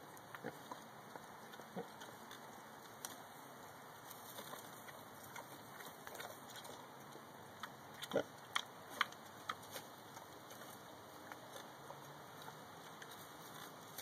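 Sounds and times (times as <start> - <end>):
pig chewing and rustling leaves: 0.0 - 14.0.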